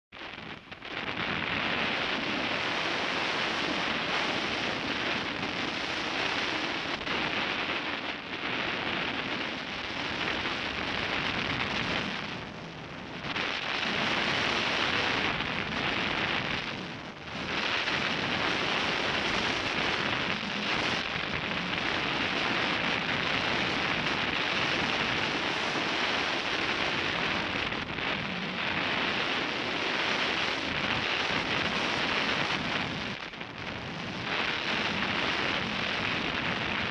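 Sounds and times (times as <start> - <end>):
wind rushing over microphone: 0.2 - 36.9.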